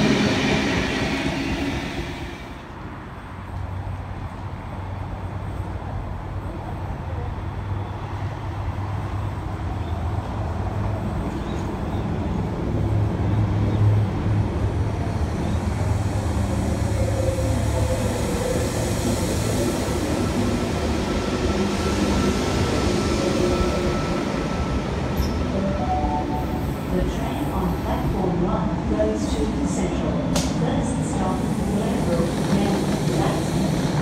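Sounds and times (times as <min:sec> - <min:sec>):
train rumble: 0:00.0 - 0:07.4, 0:08.6 - 0:34.0.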